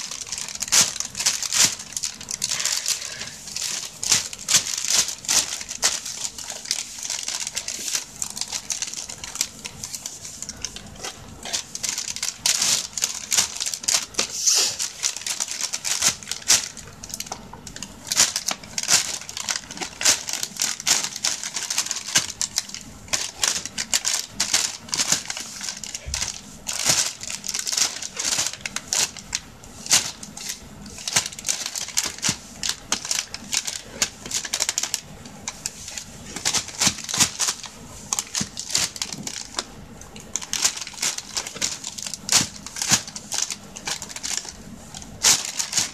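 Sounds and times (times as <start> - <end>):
plastic bag crinkling: 0.0 - 45.9.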